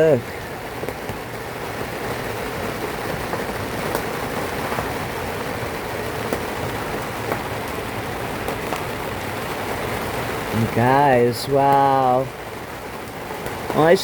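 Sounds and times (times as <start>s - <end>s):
rain on a boat canopy: 0.0s - 14.0s
sharp raindrop ticks: 0.0s - 14.0s.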